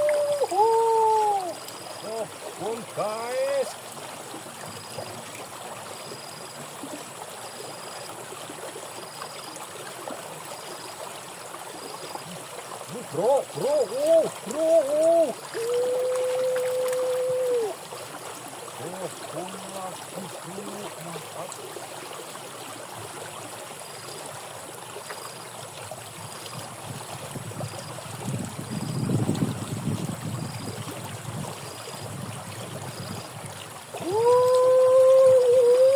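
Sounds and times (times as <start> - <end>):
water flowing in a ditch: 0.0 - 35.9.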